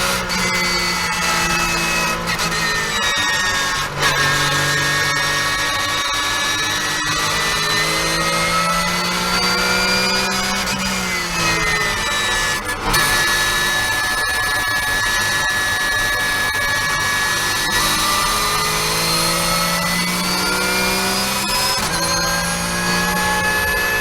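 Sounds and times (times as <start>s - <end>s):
race car engine accelerating: 0.0s - 24.0s.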